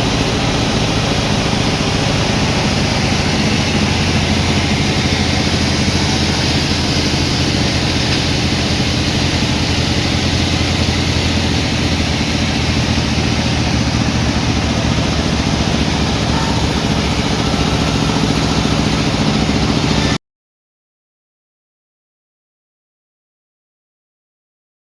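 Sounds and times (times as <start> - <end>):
sawmill engine pulsing: 0.0 - 20.2.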